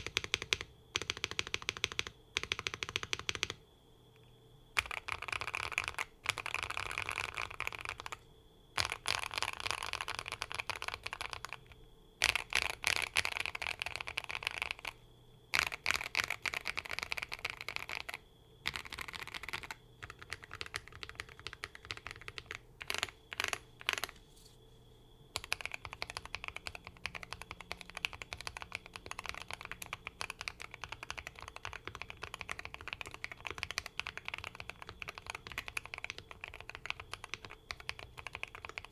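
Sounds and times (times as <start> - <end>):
mechanical keyboard typing: 0.0 - 3.6, 4.8 - 8.2, 8.8 - 24.2, 25.4 - 38.9.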